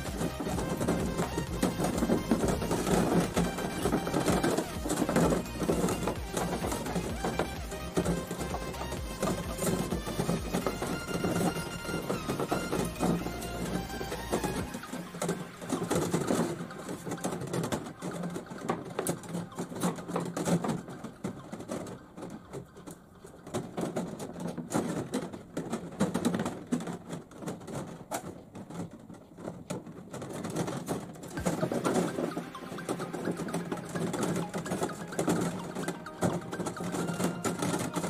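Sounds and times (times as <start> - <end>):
copper tubing clicking and rattling: 0.0 - 38.0.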